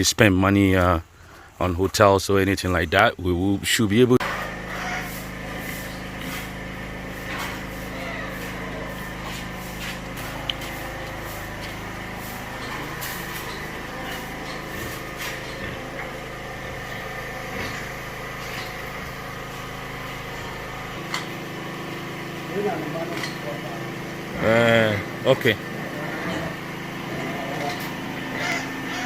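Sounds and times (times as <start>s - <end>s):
machine engine humming: 4.1s - 29.0s.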